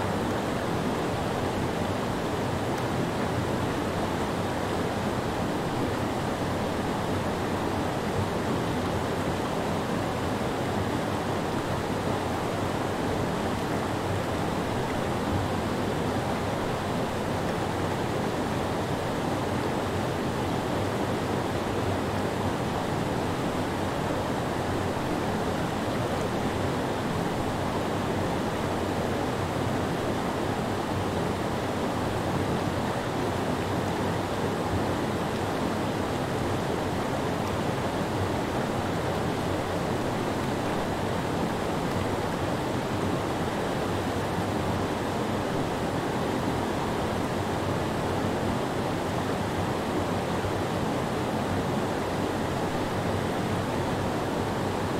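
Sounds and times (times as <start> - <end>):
rapids roaring: 0.0 - 54.9.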